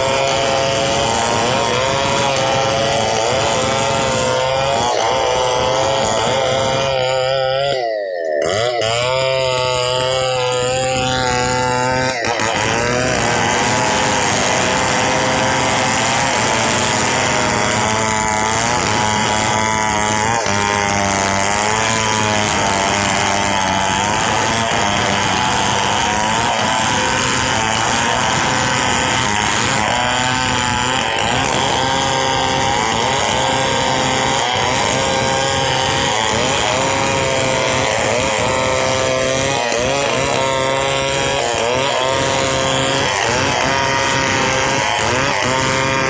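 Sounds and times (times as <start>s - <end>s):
chainsaw cutting through log: 0.0s - 46.0s.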